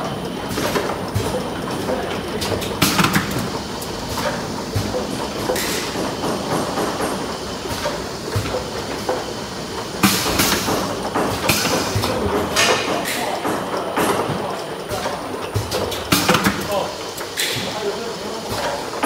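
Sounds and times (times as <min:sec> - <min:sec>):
conveyor mechanical clatter: 0:00.0 - 0:19.0.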